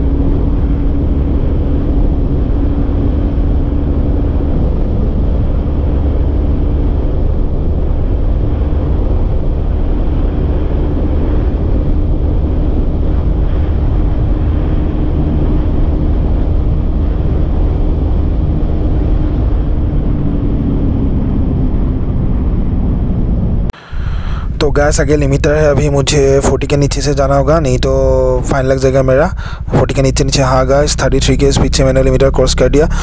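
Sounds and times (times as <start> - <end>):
motorcycle engine drone: 0.0 - 33.0
wind rushing over microphone: 0.0 - 33.0.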